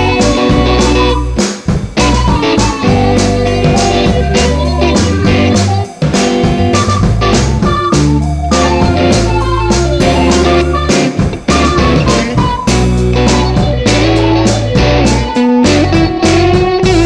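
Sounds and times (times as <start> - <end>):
blues guitar music with beat: 0.0 - 17.0.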